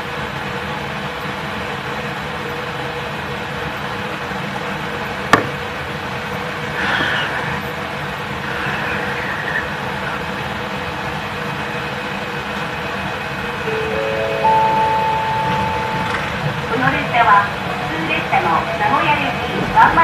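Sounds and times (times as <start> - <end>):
train cabin running noise: 0.0 - 20.0.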